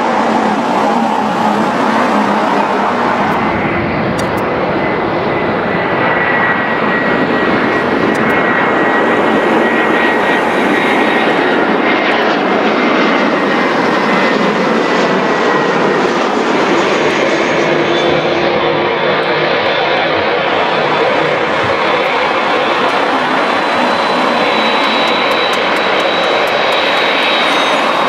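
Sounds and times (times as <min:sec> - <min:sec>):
jet engines taxiing: 0:00.0 - 0:28.0.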